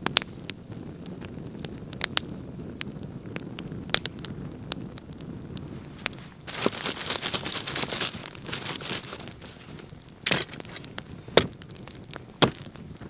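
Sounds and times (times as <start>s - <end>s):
burning logs crunching and rustling: 0.0s - 13.0s
campfire crackling and popping: 0.0s - 13.0s.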